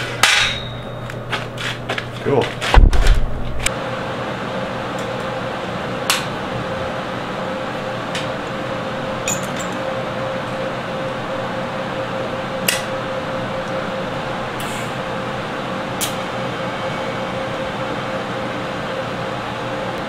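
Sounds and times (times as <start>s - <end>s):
fan-like hum with pitched tone: 0.0s - 20.0s.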